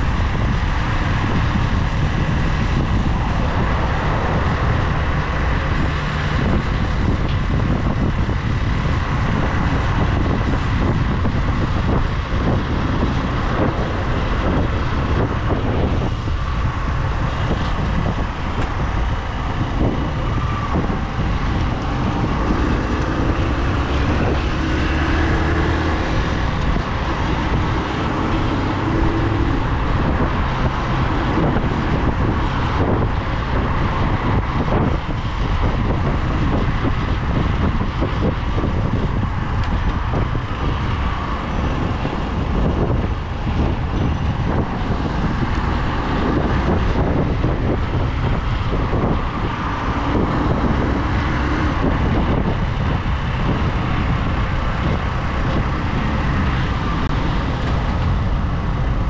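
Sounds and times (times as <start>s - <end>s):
road and wind noise: 0.0s - 59.0s
surrounding cars: 0.0s - 59.0s.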